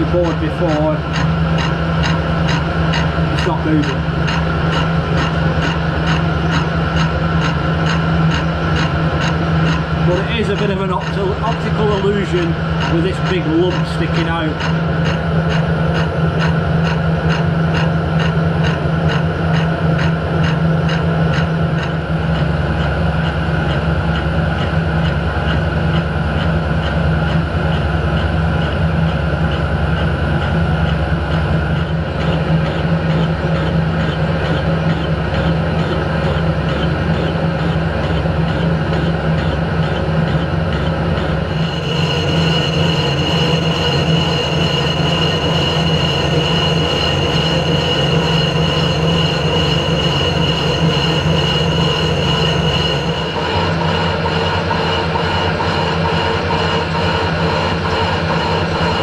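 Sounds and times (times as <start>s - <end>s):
boring bar cutting metal: 0.0s - 59.0s
high steady whine: 0.0s - 59.0s
lathe running: 0.0s - 59.0s.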